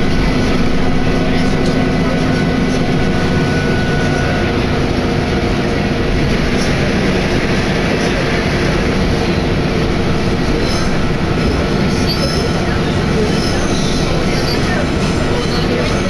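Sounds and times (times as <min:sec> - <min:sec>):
diesel railcar running: 0:00.0 - 0:16.0.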